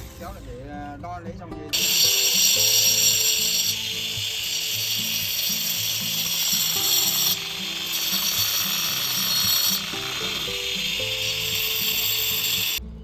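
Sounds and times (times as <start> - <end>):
background music: 0.0 - 13.0
power tool driving fasteners: 1.8 - 12.8.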